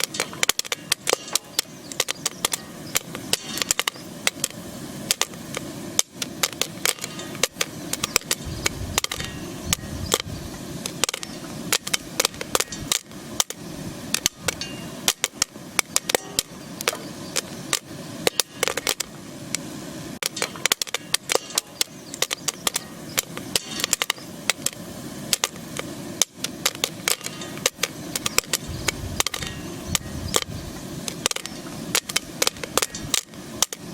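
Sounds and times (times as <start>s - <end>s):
popcorn popping in a skillet: 0.0s - 33.9s
steady hiss: 0.0s - 33.9s.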